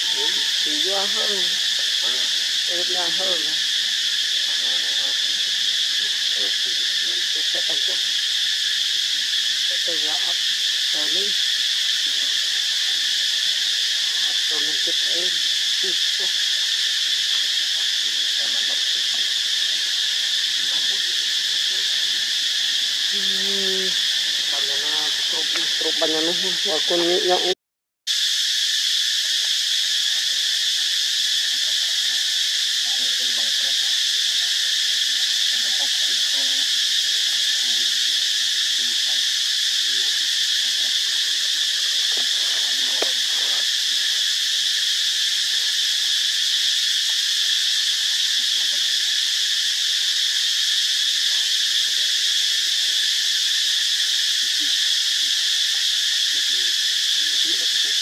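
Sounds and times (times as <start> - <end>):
insects buzzing: 0.0 - 58.0.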